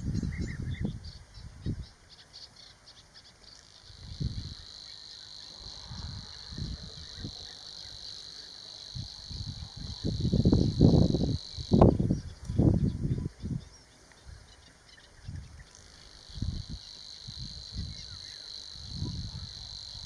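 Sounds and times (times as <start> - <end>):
warbler ticking and reeling song: 0.0 - 20.0.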